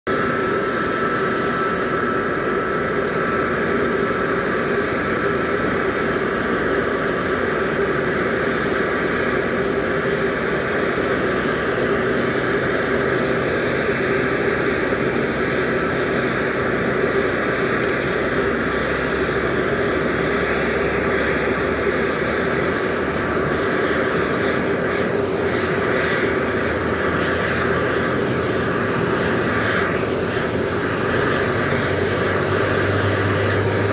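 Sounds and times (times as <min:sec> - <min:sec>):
jet engine whine: 0:00.0 - 0:33.9.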